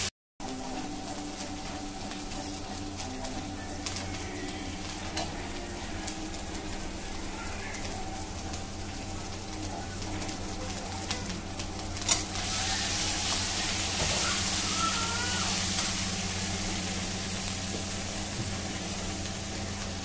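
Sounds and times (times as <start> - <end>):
tomatoes sizzling in hot oil: 0.0 - 20.0.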